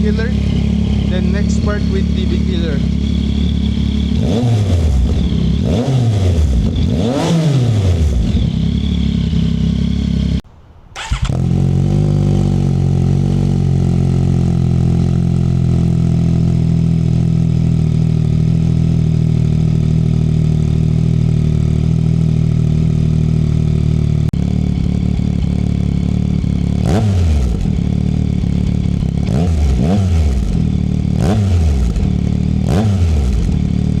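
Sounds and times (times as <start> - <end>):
motorcycle engine revving: 0.0 - 10.4, 11.0 - 34.0.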